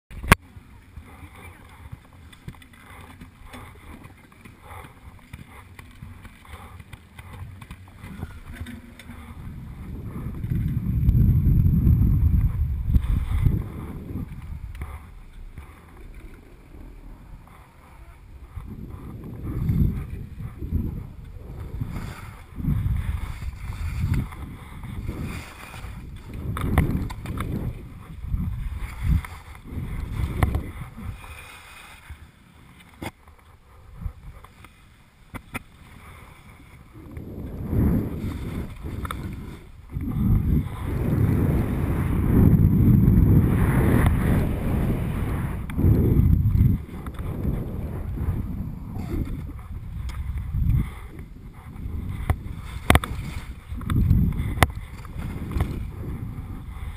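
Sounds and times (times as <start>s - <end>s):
wind on microphone: 0.1s - 56.9s
skis scraping through snow: 0.2s - 35.0s, 35.6s - 56.9s.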